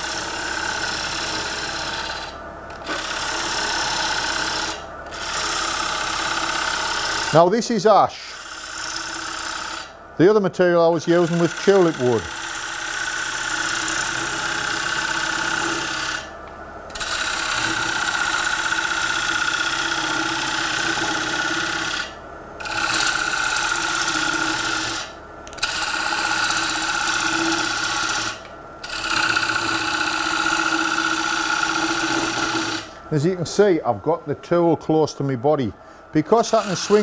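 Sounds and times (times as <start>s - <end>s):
lathe running: 0.0s - 37.0s
tool cutting wood on a lathe: 0.0s - 37.0s.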